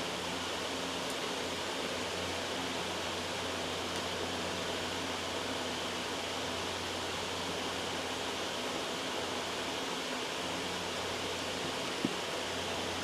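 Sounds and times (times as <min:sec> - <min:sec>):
white noise: 0:00.0 - 0:13.0.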